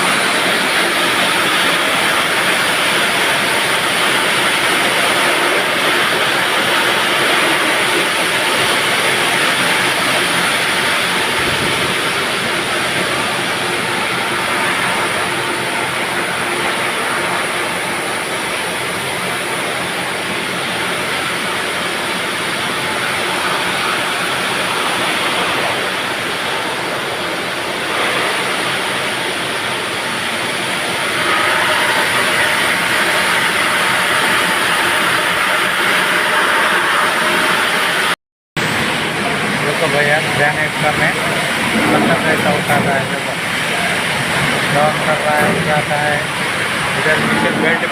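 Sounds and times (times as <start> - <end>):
heavy machinery running: 0.0 - 47.9.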